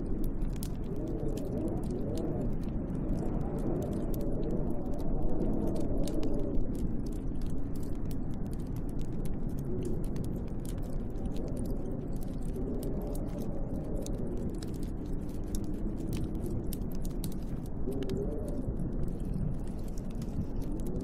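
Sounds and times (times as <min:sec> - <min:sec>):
wind blowing with low moan: 0:00.0 - 0:21.0
wood fire crackling: 0:00.0 - 0:21.0.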